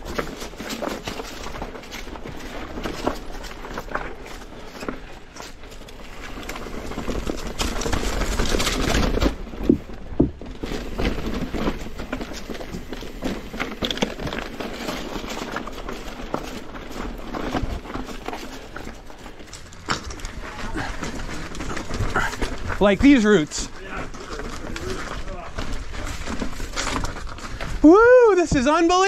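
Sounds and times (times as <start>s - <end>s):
bike clattering over rocks: 0.0s - 29.0s
bike tyres rushing over dirt: 0.0s - 29.0s.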